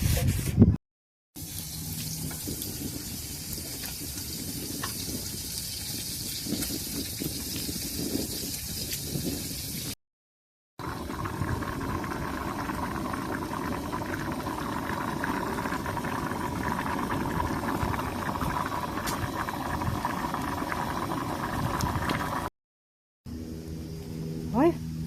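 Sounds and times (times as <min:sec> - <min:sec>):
campfire crackles: 0:01.4 - 0:10.0, 0:10.8 - 0:22.5
pot bubbling at a boil: 0:01.4 - 0:10.0, 0:10.8 - 0:22.5.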